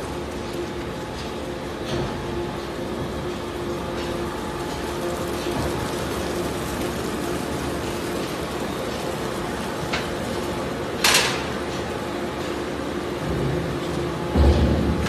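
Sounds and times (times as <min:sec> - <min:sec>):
recycling machinery humming: 0:00.0 - 0:15.0.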